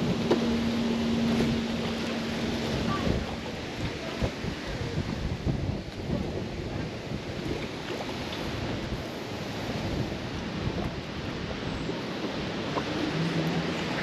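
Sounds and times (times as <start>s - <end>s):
choppy water lapping: 0.0s - 14.0s
wind buffeting microphone: 0.0s - 14.0s.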